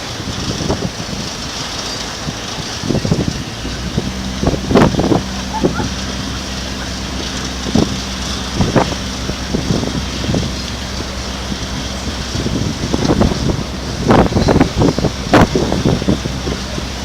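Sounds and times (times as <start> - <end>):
engine humming: 0.0 - 17.0
wind buffeting microphone: 0.0 - 17.0.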